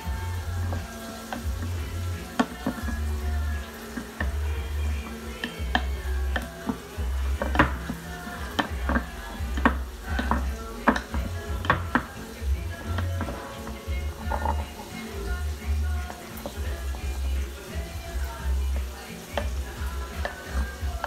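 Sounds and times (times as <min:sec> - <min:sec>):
background music with bass beat: 0:00.0 - 0:21.0.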